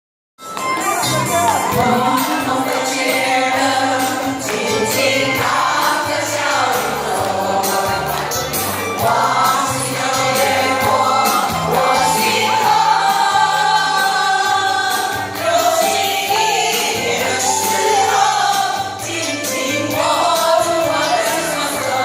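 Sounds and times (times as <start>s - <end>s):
instrumental accompaniment with bass: 0.4s - 22.0s
choir singing in unison: 1.6s - 22.0s.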